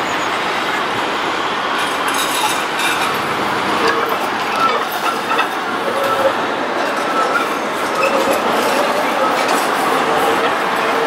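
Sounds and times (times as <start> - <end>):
tram wheels rumbling on rails: 0.0 - 11.0
thin wheel squeal: 1.8 - 11.0.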